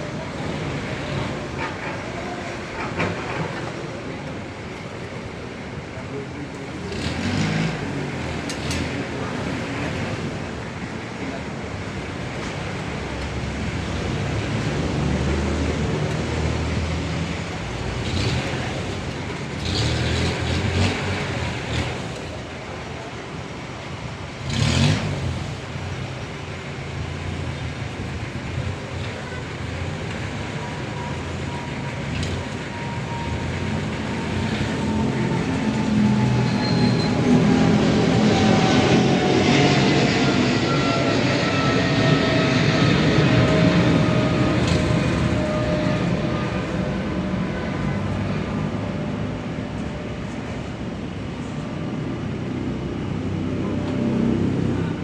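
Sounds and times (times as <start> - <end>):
vehicle engine noise: 0.0 - 55.0.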